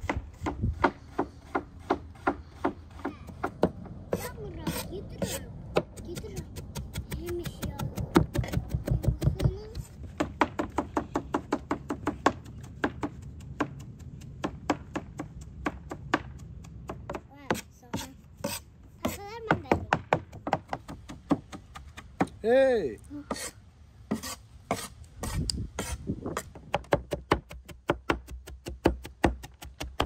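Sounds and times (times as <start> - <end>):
cleaver chopping on wooden board: 0.0 - 22.4, 24.1 - 30.0.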